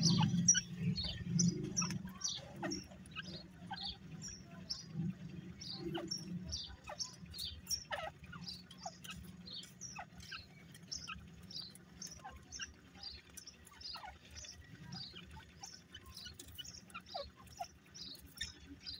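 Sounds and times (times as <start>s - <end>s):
francolins chirping: 0.0s - 18.9s.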